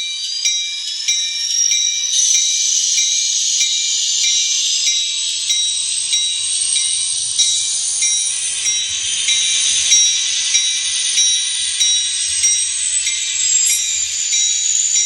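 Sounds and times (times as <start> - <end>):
locomotive bell ringing: 0.0 - 15.0
steady hiss: 0.0 - 15.0.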